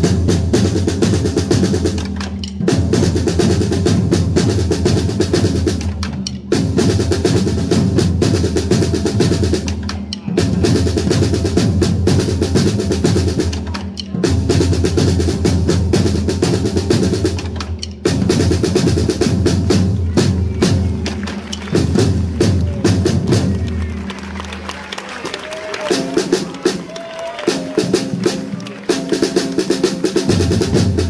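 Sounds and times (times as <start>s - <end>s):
drums playing fast rolling rhythm: 0.0s - 31.0s.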